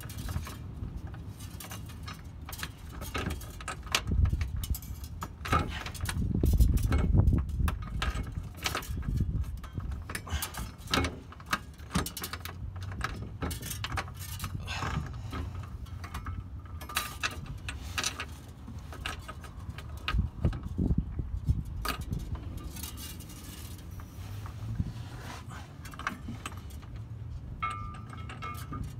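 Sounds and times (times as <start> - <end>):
metal clinks and rattles: 0.0 - 28.9
rumbling handling noise: 0.0 - 28.9.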